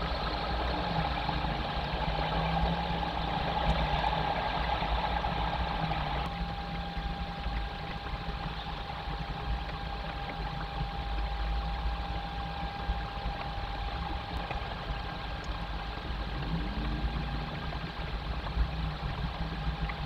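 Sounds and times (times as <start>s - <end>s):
low rumble and hiss: 0.0s - 20.0s
thin whine: 0.0s - 20.0s.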